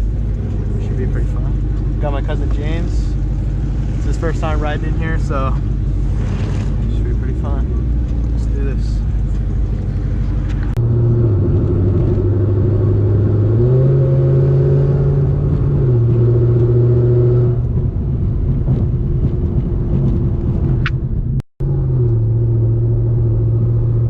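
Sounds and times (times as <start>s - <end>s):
car engine exhaust drone: 0.0s - 24.0s.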